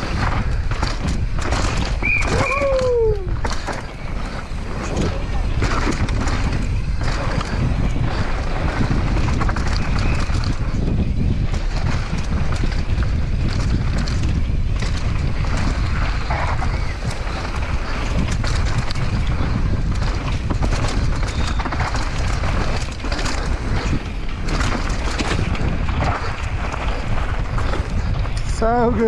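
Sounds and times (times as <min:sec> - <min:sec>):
bike clattering over bumps: 0:00.0 - 0:29.0
tyres running over dirt: 0:00.0 - 0:29.0
wind buffeting microphone: 0:00.0 - 0:29.0.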